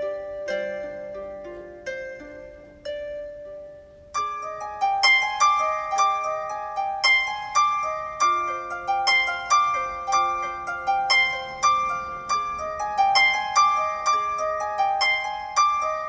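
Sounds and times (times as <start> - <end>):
plucked harp-like notes: 0.0 - 16.0.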